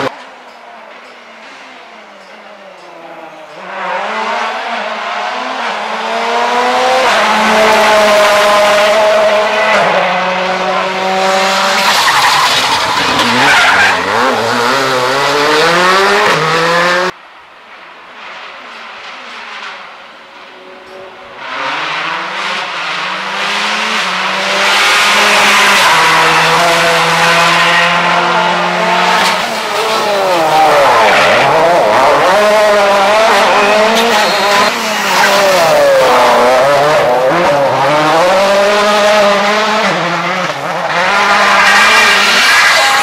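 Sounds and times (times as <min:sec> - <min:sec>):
rally car engines revving: 0:00.0 - 0:17.2, 0:18.0 - 0:43.0.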